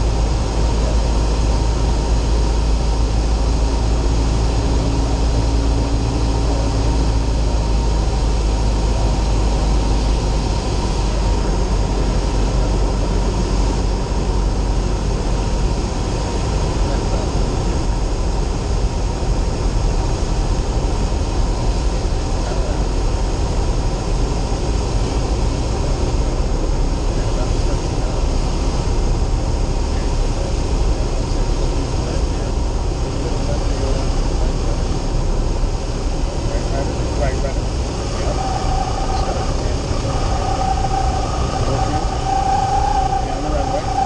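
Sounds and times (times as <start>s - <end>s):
aircraft engine and propeller droning: 0.0s - 44.0s.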